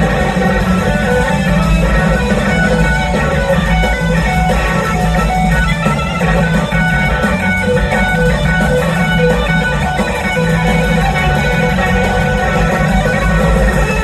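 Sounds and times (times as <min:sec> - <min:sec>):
electric guitar lead: 0:00.0 - 0:14.0
live band playing: 0:00.0 - 0:14.0.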